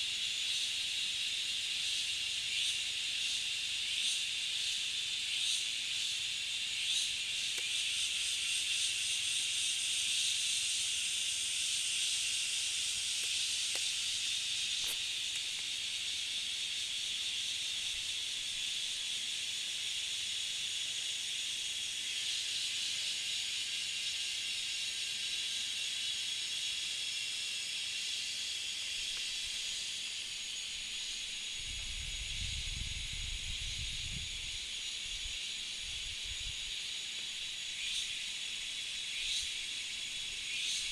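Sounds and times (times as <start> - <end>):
high-pitched hiss: 0.0 - 40.9.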